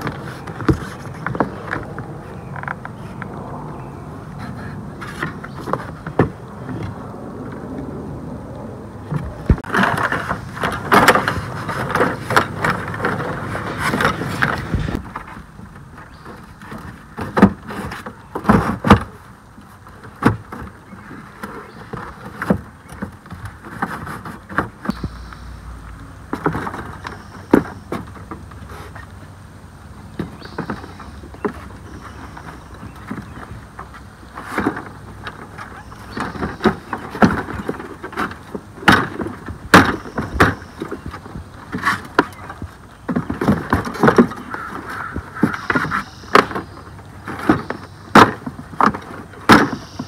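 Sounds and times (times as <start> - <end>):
plastic boat parts knocking and clattering: 0.0 - 2.9, 5.0 - 6.9, 9.1 - 25.0, 26.2 - 28.8, 30.1 - 50.0.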